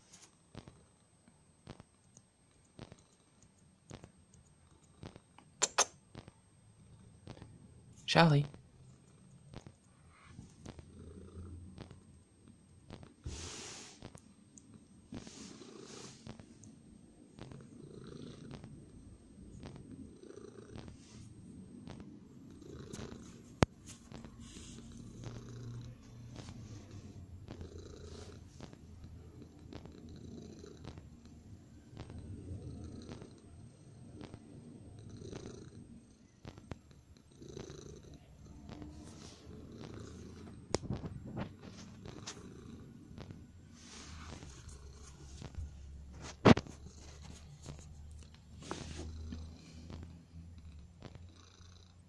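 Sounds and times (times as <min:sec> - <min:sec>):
cat purring: 0:00.0 - 0:52.0.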